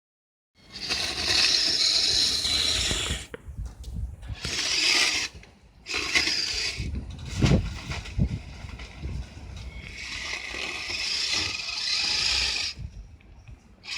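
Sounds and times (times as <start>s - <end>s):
toy vehicle motor and gears running: 0.7s - 3.3s, 4.3s - 13.0s.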